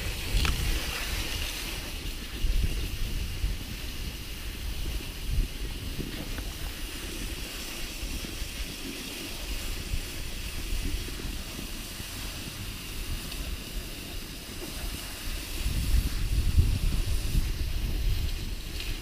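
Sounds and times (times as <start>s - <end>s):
skis hissing over snow: 0.0s - 19.0s
wind rumbling on microphone: 0.0s - 19.0s.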